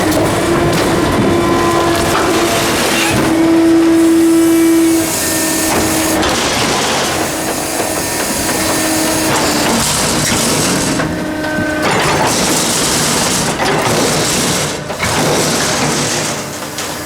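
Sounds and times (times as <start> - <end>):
hydraulic pump whining: 0.0 - 17.0.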